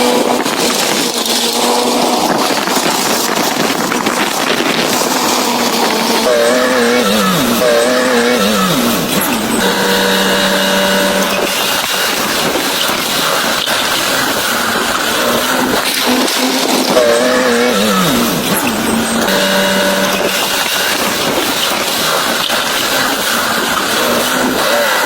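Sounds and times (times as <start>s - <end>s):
heavy earthmoving machinery whining: 0.0s - 25.0s.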